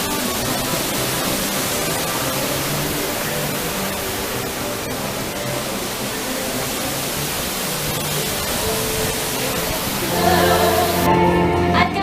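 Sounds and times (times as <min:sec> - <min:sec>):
rushing water hiss: 0:00.0 - 0:11.7
faint music: 0:00.0 - 0:12.0.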